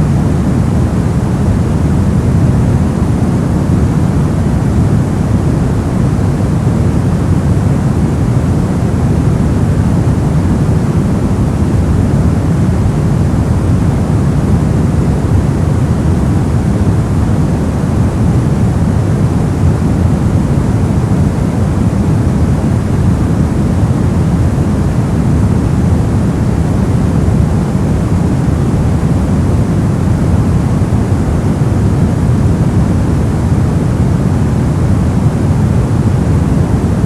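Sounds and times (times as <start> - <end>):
deep rumbling white noise: 0.0 - 37.0.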